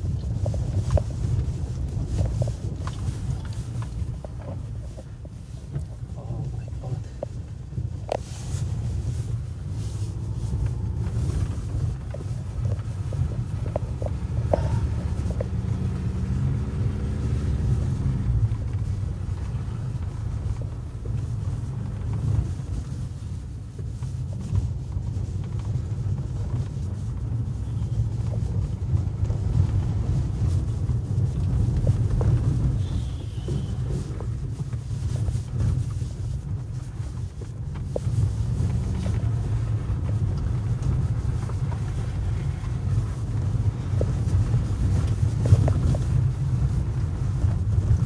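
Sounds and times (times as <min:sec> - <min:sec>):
engine and tyres rumbling: 0:00.0 - 0:48.0.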